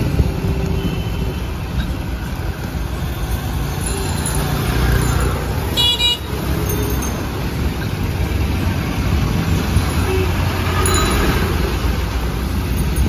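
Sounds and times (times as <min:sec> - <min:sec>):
bus engine rumbling: 0:00.0 - 0:13.0
street traffic: 0:00.0 - 0:13.0.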